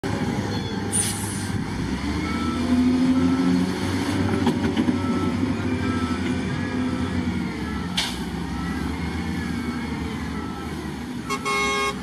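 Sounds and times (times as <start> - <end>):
wheel loader diesel engine: 0.0 - 12.0.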